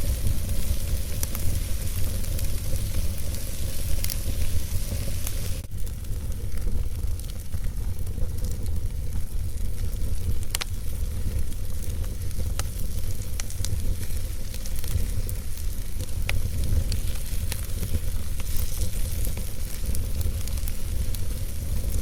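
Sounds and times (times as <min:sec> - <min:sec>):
fire crackling and popping: 0:00.0 - 0:22.0
fire rumbling and hissing: 0:00.0 - 0:22.0.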